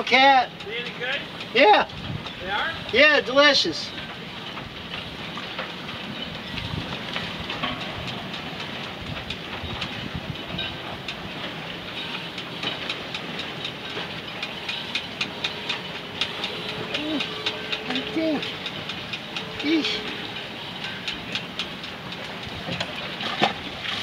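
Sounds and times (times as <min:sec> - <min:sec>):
wind buffeting microphone: 0:01.8 - 0:03.2, 0:03.8 - 0:24.0.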